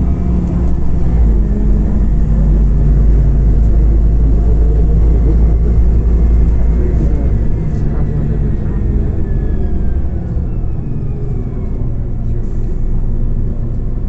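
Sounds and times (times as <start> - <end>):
bus engine rumble: 0.0 - 14.0
road noise: 0.0 - 14.0.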